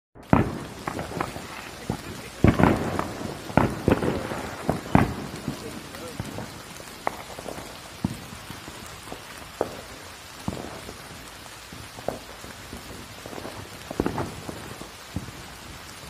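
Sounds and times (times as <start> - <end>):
rain falling: 0.2 - 16.0
sharp raindrop hits: 0.2 - 16.0.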